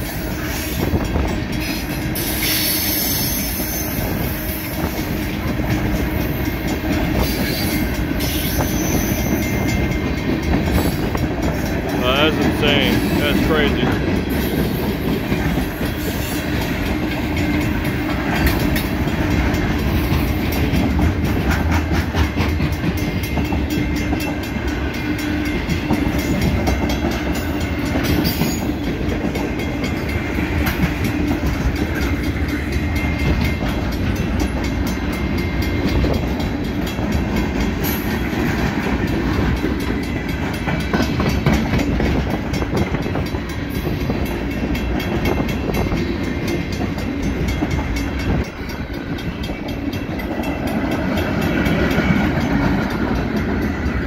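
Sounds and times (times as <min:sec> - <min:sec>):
freight train wheels rumbling: 0:00.0 - 0:54.0
wheels clacking over rail joints: 0:00.8 - 0:54.0.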